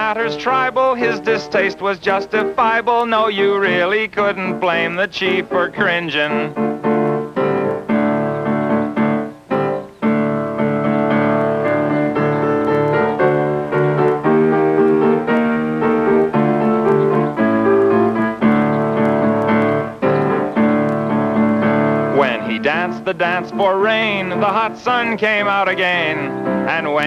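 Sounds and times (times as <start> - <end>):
piano playing: 0.0 - 27.0.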